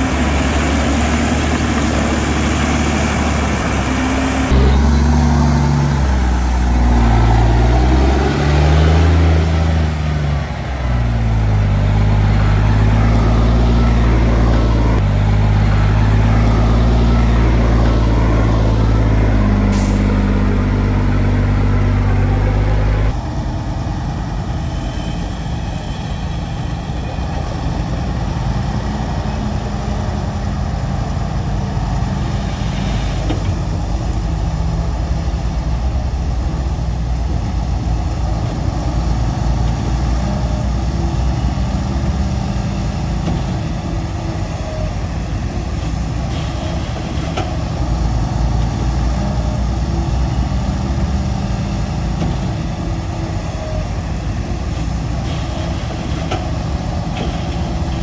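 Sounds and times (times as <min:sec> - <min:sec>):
diesel machinery engine running: 0:00.0 - 0:58.0.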